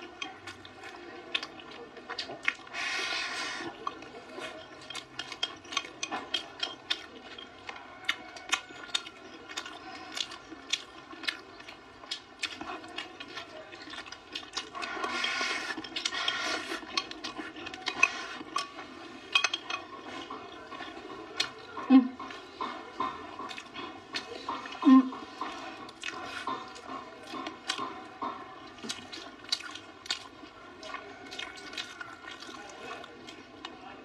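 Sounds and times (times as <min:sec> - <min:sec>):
mouth sounds of eating: 0:00.0 - 0:34.0.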